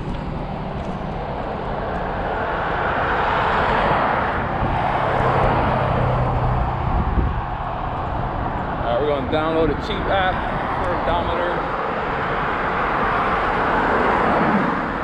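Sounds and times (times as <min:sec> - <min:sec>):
low engine hum: 0:00.0 - 0:15.0
vehicle passing by: 0:00.0 - 0:15.0.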